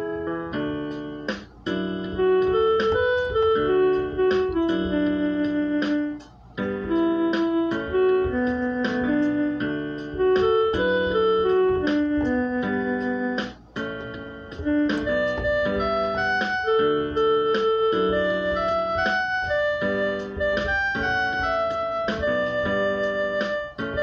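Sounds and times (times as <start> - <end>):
electronic keyboard melody: 0.0 - 24.0.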